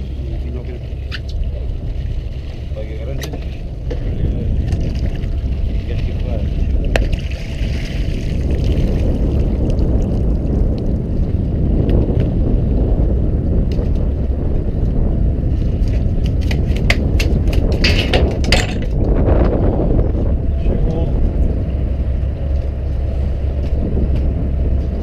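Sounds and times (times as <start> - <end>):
boat engine rumbling: 0.0 - 25.0
wind noise: 0.0 - 25.0.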